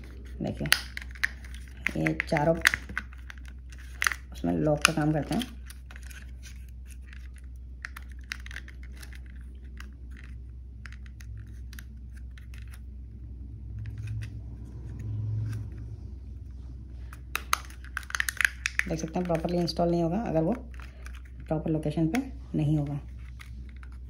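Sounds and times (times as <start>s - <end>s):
plastic parts clicking and rattling: 0.0s - 12.9s, 17.1s - 24.0s
steady low hum: 0.0s - 24.0s.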